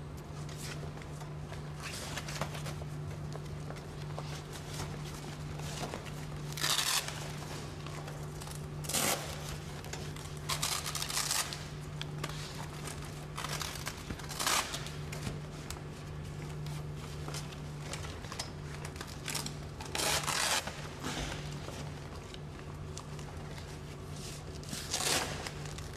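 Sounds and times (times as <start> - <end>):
steady low hum: 0.0 - 25.9
fabric bags rustling and crinkling: 0.4 - 25.9.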